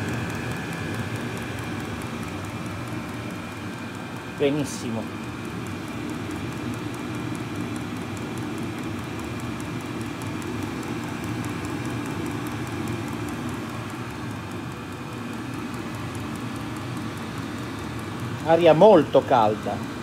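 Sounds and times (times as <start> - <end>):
fuel pump ticking: 0.0 - 20.0
heater fan and burner rushing: 0.0 - 20.0.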